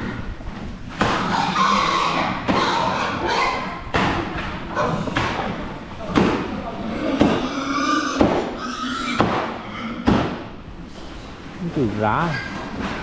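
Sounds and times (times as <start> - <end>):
pigs thudding and scuffling: 0.0 - 13.0.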